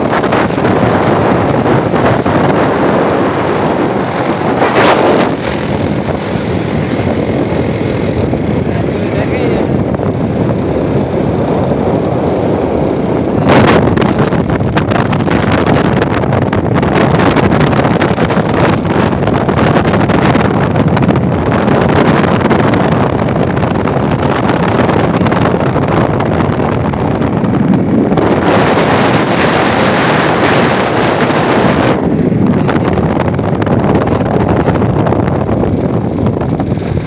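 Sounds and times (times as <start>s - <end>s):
vehicle and road noise: 0.0s - 37.0s
wind rushing over microphone: 0.0s - 37.0s.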